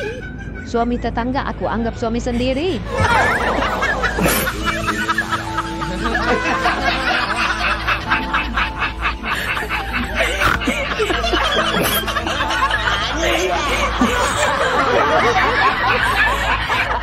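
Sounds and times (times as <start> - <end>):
background music with held notes: 0.0 - 17.0
person snickering laughter: 3.0 - 17.0.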